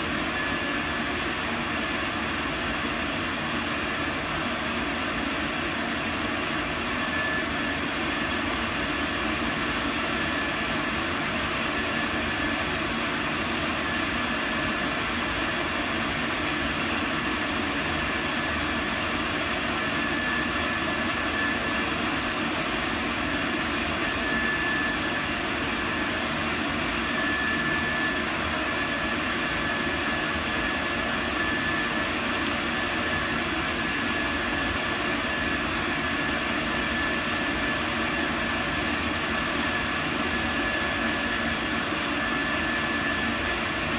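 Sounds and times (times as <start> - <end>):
thin high whine: 0.0 - 43.9.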